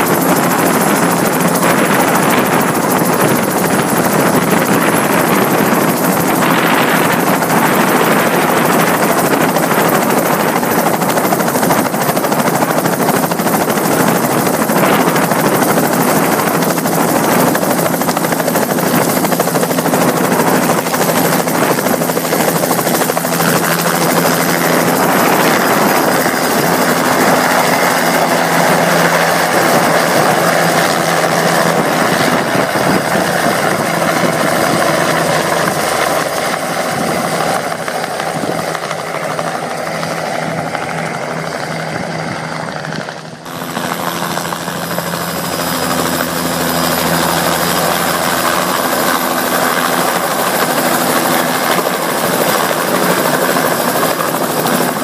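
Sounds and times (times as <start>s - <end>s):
helicopter turbine and rotor: 0.0s - 55.0s.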